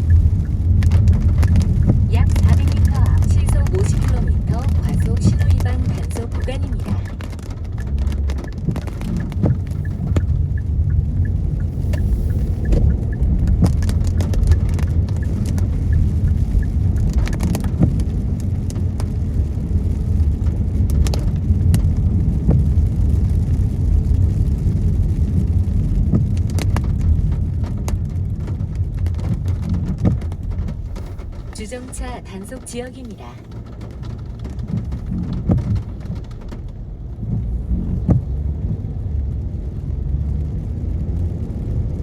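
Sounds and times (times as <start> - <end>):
raindrops tapping on glass: 0.0 - 23.5, 25.2 - 39.0
road and engine rumble: 0.0 - 42.0.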